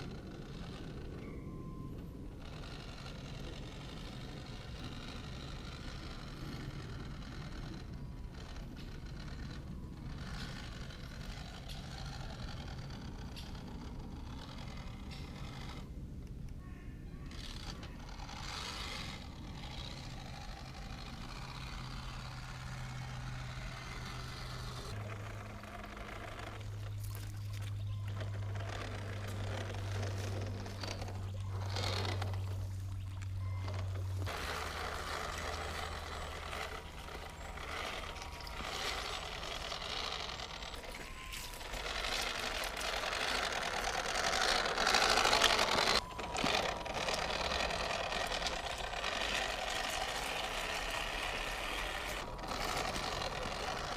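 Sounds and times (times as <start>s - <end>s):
steady low hum: 0.0s - 53.9s
toy truck motor and gearbox: 0.0s - 53.9s
tyres on rough ground: 0.0s - 53.9s.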